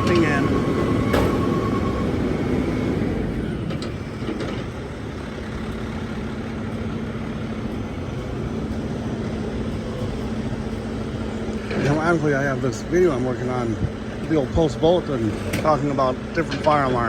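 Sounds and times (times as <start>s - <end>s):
motor vehicle running: 0.0s - 17.0s.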